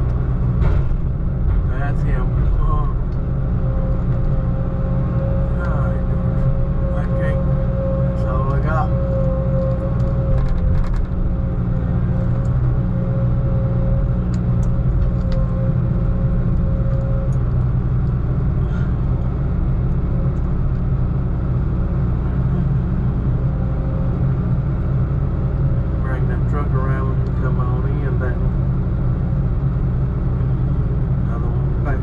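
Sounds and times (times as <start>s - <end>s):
diesel truck engine rumbling: 0.0s - 32.0s
thin steady whine: 1.7s - 32.0s.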